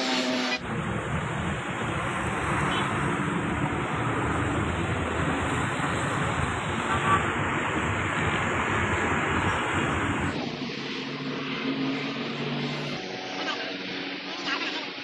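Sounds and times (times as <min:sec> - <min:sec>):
vehicle running rumble and hiss: 0:00.0 - 0:15.0.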